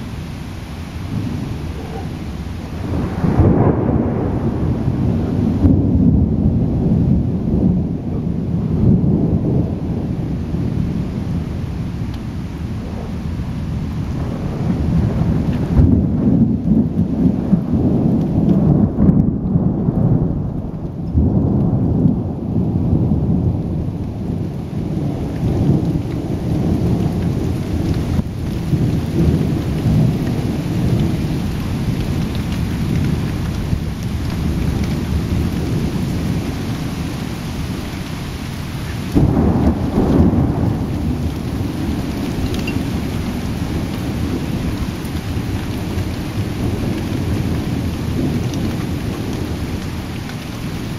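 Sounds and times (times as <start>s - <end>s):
steady rain: 0.0s - 50.9s
thunder rumbling: 0.0s - 50.9s.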